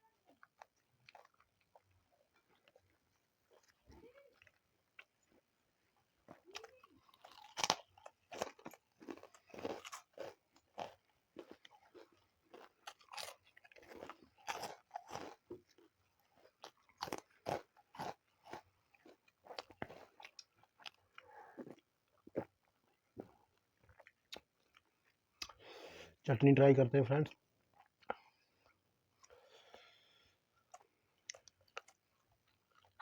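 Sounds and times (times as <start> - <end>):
chewing and crunching food: 0.0 - 25.8, 27.6 - 33.0.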